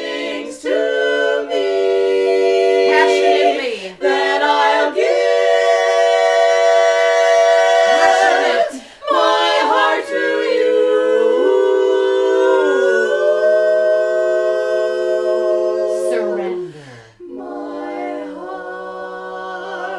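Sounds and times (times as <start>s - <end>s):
women singing in harmony: 0.0s - 19.9s.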